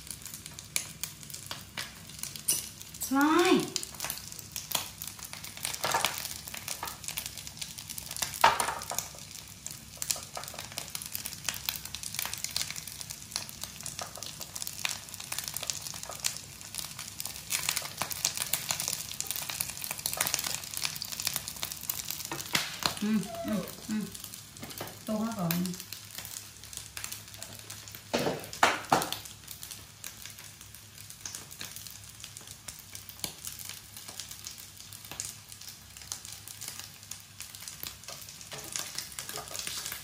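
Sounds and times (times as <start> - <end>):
corn frying in oil with pops: 0.0 - 40.0.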